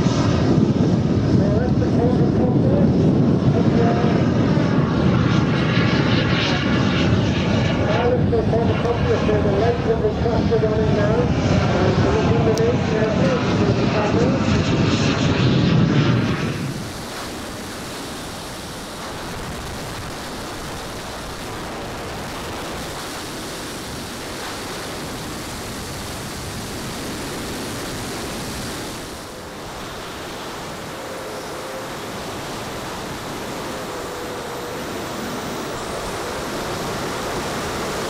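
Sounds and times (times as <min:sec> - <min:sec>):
jet whine of passing model aircraft: 0:00.0 - 0:38.0.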